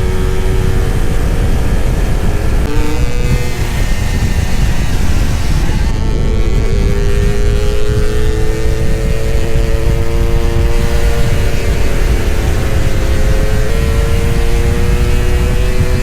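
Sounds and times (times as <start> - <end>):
motorcycle engine running hard: 0.0 - 16.0
wind noise: 0.0 - 16.0.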